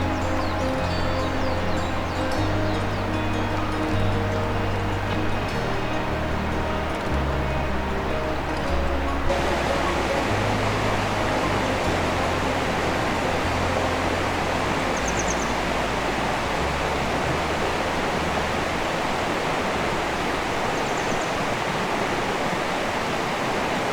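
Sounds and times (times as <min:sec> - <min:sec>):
low sustained music notes: 0:00.0 - 0:22.4
water rushing: 0:00.0 - 0:23.9.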